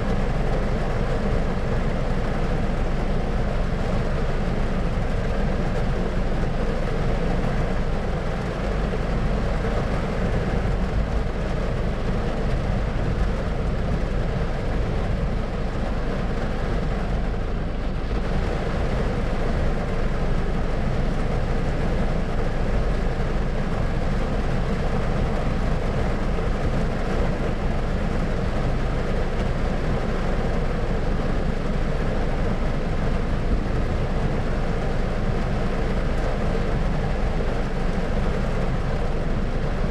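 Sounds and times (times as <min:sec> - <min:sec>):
deep rumbling noise: 0:00.0 - 0:39.9.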